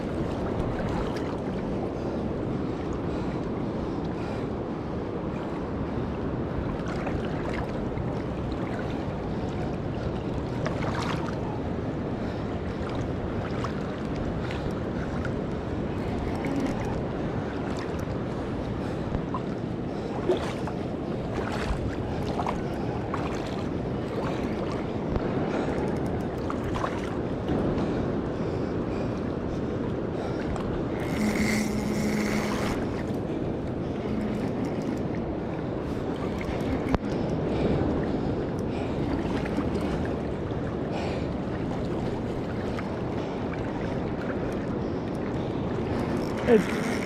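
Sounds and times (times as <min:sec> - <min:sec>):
wind on microphone: 0:00.0 - 0:47.0.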